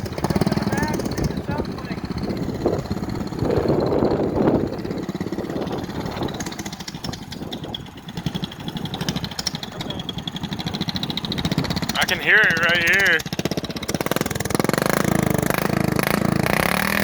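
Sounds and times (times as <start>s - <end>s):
small engine running hard: 0.0s - 17.0s.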